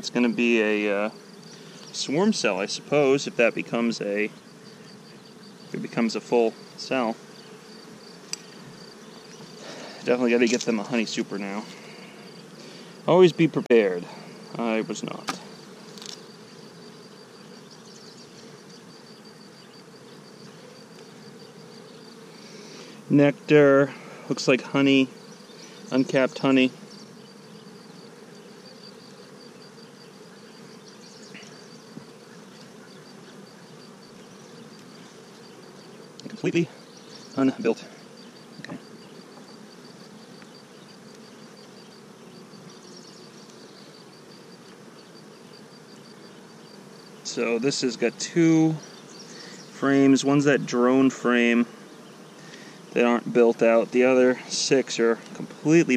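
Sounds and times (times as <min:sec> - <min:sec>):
honey bees buzzing: 0:00.0 - 0:55.9.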